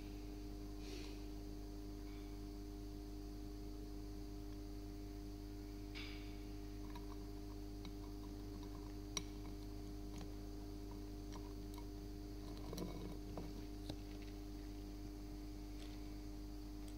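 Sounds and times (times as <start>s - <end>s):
electrical hum: 0.0s - 16.9s.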